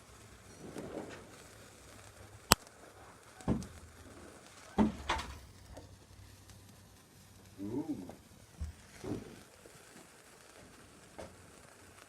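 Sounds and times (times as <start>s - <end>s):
firework bangs: 0.0s - 12.0s
firework crack: 0.0s - 12.0s.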